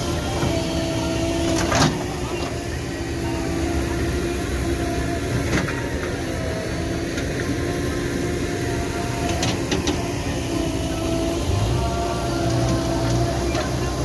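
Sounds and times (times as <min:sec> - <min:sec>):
diesel machinery engine running: 0:00.0 - 0:14.0.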